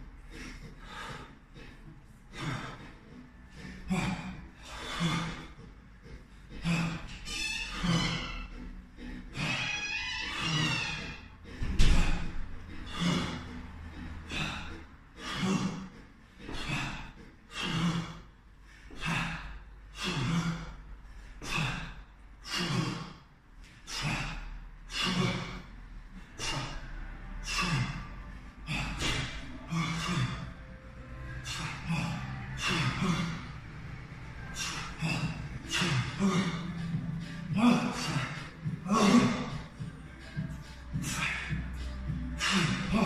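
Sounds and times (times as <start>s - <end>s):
heavy rhythmic breathing: 0.0s - 43.0s.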